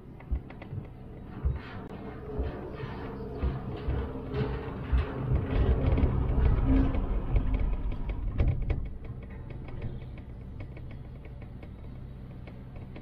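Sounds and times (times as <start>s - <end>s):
cable car rumble and clatter: 0.0s - 13.0s.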